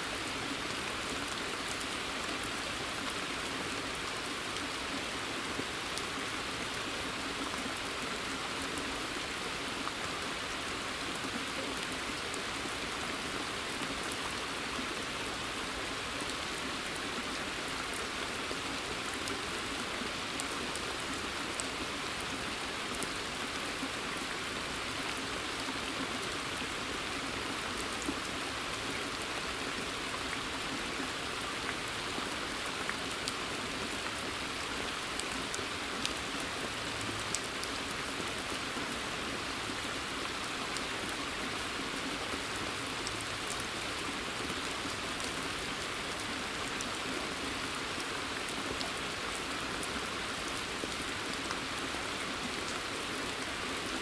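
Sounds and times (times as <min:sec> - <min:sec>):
rain falling on a pond: 0:00.0 - 0:54.0.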